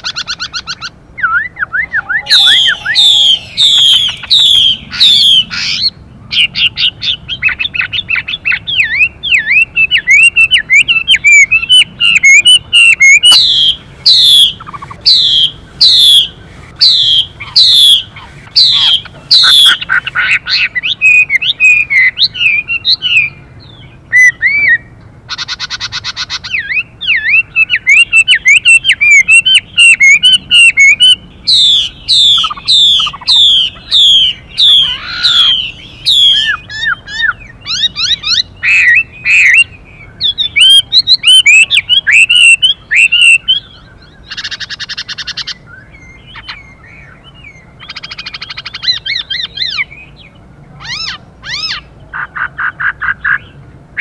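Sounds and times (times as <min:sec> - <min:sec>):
bird singing whistled notes: 0:00.0 - 0:51.9
harsh buzzing bird rasps: 0:00.0 - 0:54.0.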